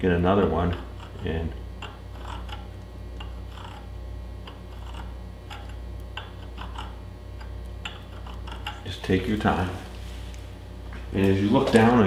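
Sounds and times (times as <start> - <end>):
file scraping metal threads: 0.4 - 10.4.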